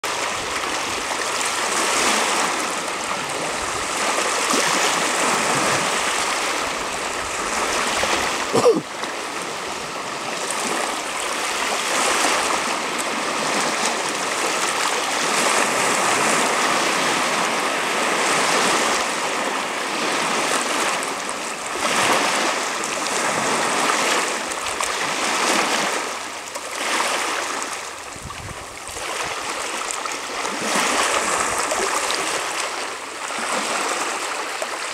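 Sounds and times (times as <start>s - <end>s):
small waves lapping on stones: 0.1s - 34.9s.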